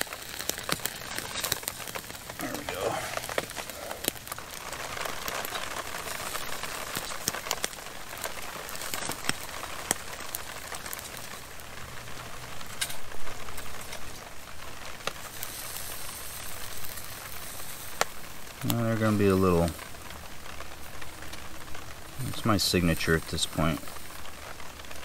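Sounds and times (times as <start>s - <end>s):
fire popping and crackling: 0.0s - 25.0s
sausages sizzling: 0.0s - 25.0s.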